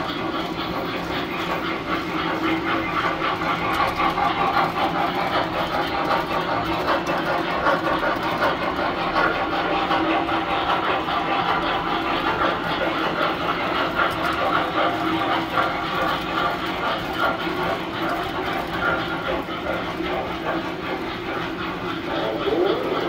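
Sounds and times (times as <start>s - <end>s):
model trains clattering on track: 0.0s - 23.0s.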